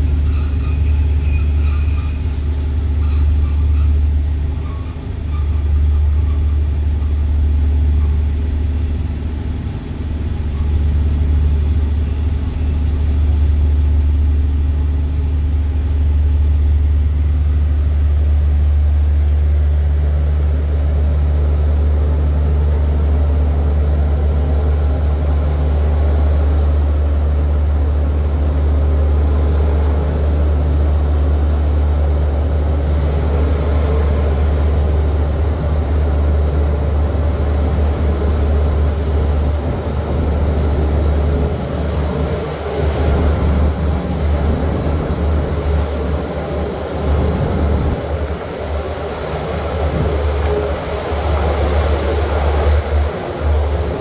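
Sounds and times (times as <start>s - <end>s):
train rumble from inside carriage: 0.0s - 54.0s.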